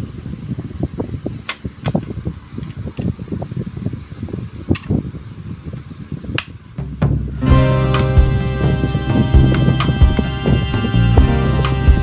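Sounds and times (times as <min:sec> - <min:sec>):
low fan-like rumble: 0:00.0 - 0:12.0.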